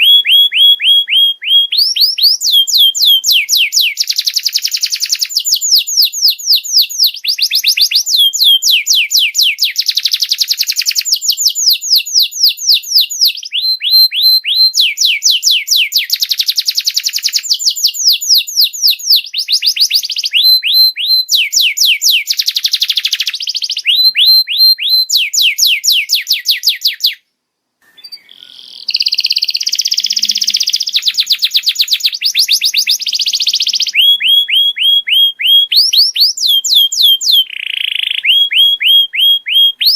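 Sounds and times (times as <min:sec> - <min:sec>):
canary singing trills: 0:00.0 - 0:27.2, 0:27.8 - 0:39.9.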